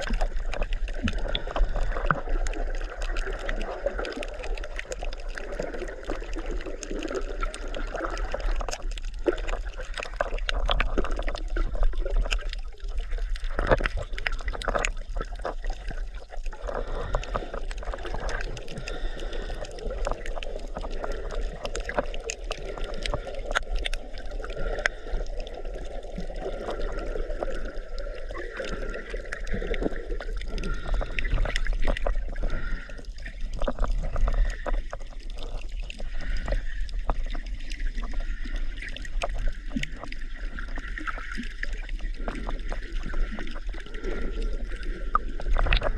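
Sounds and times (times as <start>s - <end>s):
water sloshing and gurgling: 0.0s - 45.9s.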